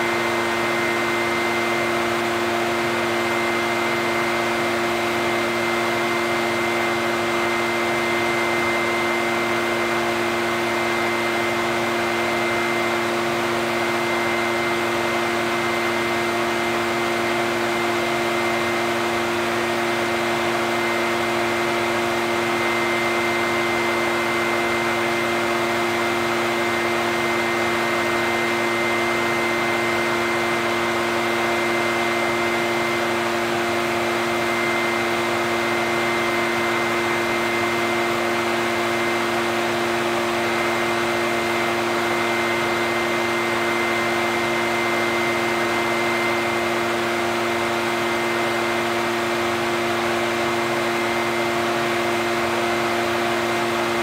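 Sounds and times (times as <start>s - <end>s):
leaf blower running: 0.0s - 54.0s.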